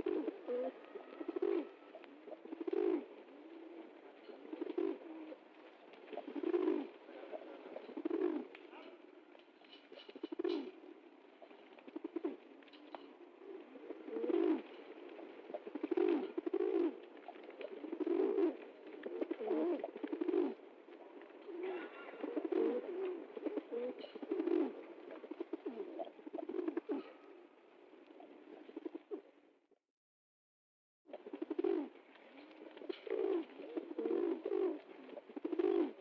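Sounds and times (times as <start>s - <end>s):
pigeons cooing: 0.0s - 29.4s, 31.1s - 36.0s.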